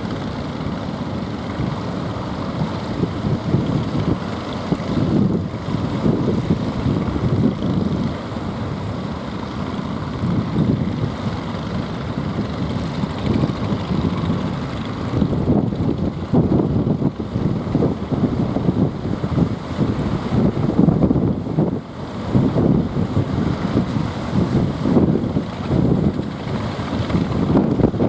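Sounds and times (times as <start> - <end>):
wind gusting across microphone: 0.0 - 28.0.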